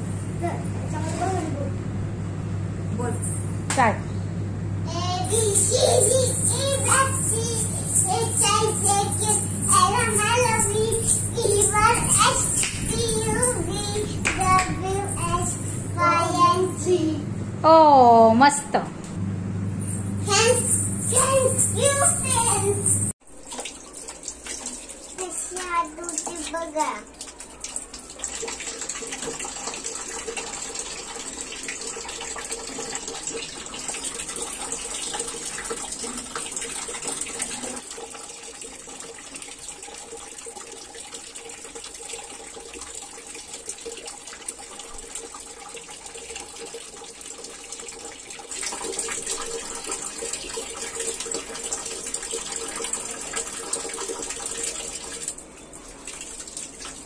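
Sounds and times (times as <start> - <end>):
water running from a tap: 4.9 - 17.1, 20.2 - 57.0
hands washing with soap: 5.3 - 16.5, 20.3 - 57.0.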